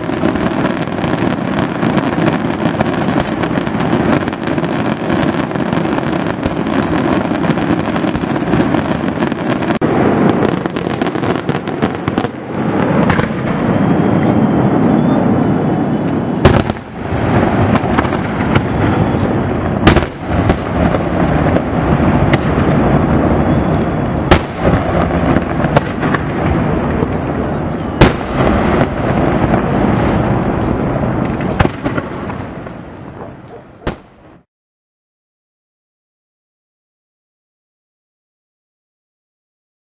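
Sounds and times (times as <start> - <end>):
fireworks crackling and rumbling: 0.0 - 34.5
sharp firework bangs: 0.0 - 34.5.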